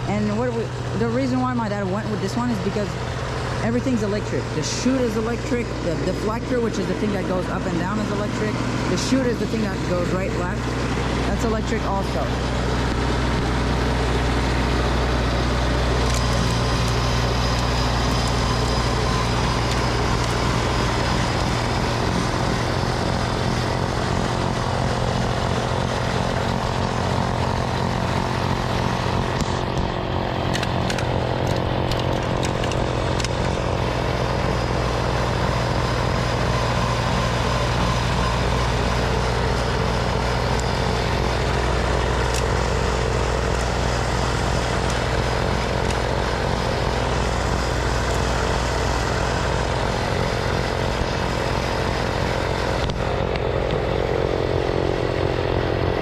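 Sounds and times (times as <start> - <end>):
snowblower engine drone: 0.0 - 56.0.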